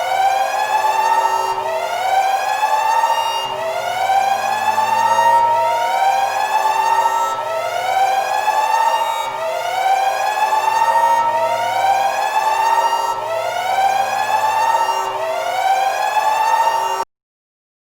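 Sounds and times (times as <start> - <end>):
siren rising wail: 0.0 - 17.0.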